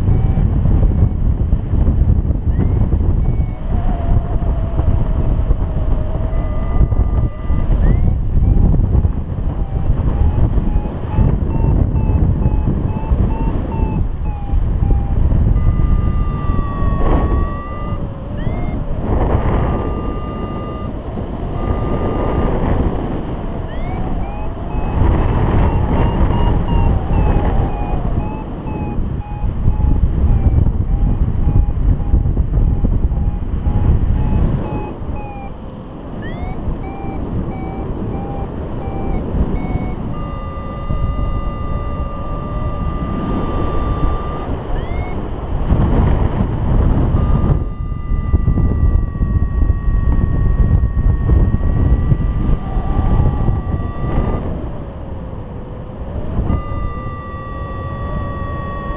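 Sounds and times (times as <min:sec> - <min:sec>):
variometer beeping: 0:00.0 - 0:55.4, 0:56.0 - 0:58.9
wind rushing over microphone: 0:00.0 - 0:58.9.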